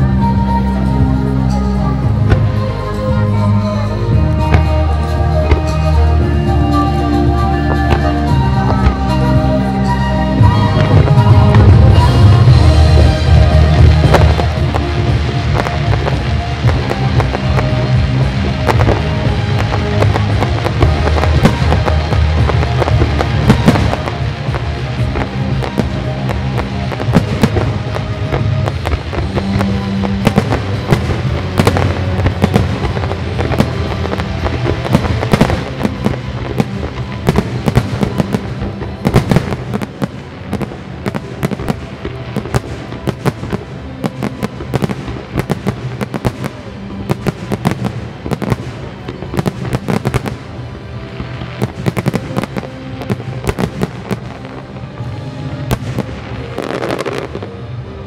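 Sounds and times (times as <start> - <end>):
fireworks bursting and crackling: 0.0 - 58.0
music soundtrack: 0.0 - 58.0.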